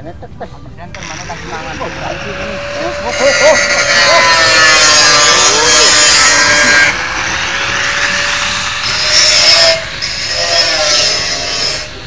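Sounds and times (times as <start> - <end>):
power saw cutting: 0.9 - 12.0.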